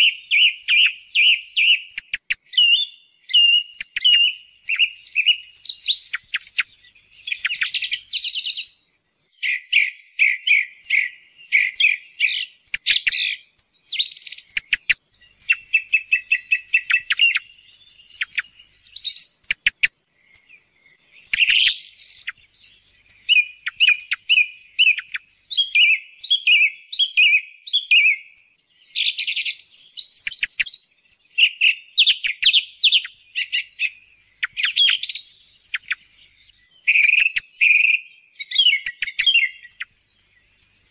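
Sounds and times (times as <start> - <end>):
song thrush singing: 0.0 - 40.9.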